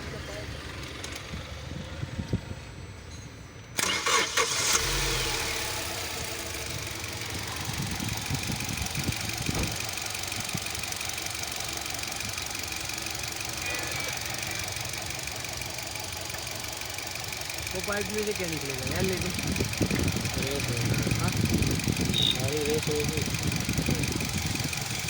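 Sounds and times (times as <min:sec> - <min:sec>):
car engine starting and idling: 0:00.0 - 0:25.0.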